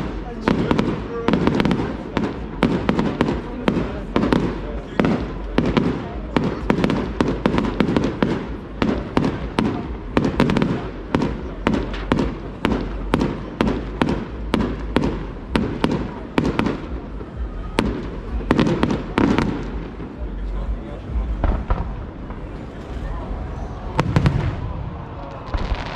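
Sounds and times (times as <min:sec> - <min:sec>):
fireworks bangs and cracks: 0:00.0 - 0:25.9.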